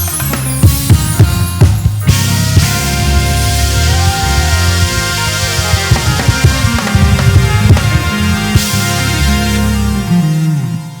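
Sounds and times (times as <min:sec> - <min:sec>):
deep bass line: 0:00.0 - 0:11.0
live band playing: 0:00.0 - 0:11.0.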